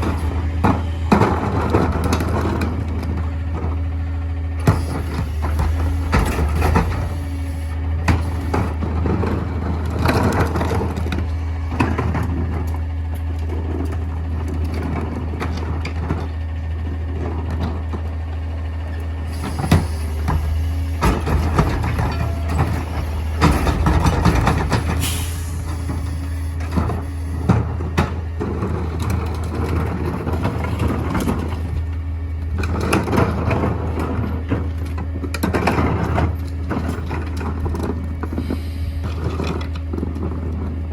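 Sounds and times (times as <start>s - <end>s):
garbage truck engine hum: 0.0s - 40.9s
trash compactor clanks and knocks: 0.0s - 40.9s.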